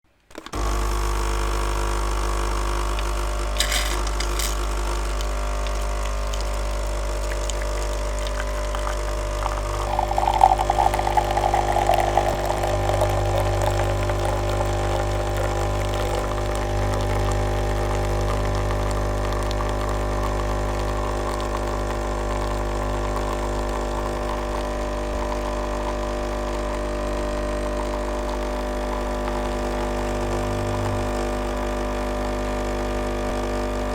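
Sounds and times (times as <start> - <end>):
coffee machine pump humming: 0.5 - 33.9
coffee machine spluttering: 2.8 - 31.7.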